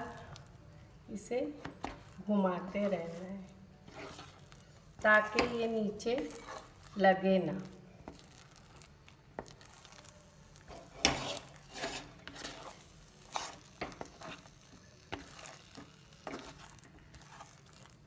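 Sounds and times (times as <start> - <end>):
spatula scraping paste in a pan: 1.5 - 18.0.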